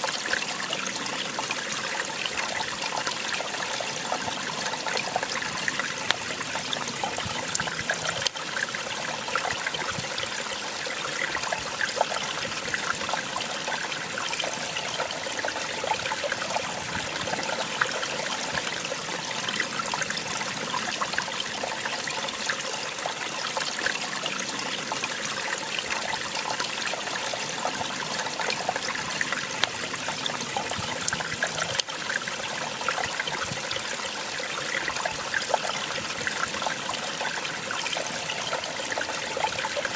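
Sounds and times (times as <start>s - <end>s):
water splashing over rocks: 0.0s - 20.3s, 24.4s - 39.9s.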